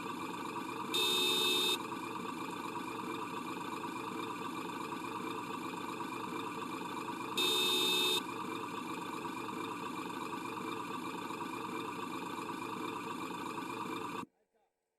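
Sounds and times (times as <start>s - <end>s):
model truck engine running: 0.0s - 14.3s.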